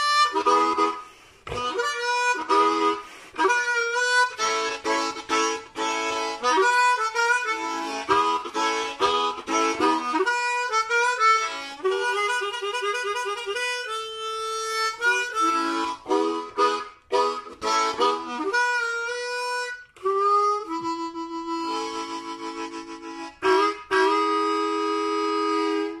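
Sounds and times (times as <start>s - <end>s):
blues harmonica solo: 0.0s - 26.0s.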